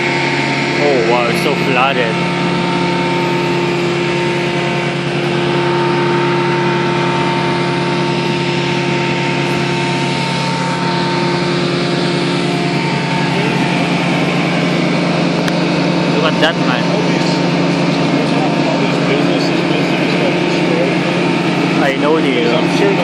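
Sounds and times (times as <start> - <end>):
car engine hum: 0.0 - 23.0
road noise: 0.0 - 23.0.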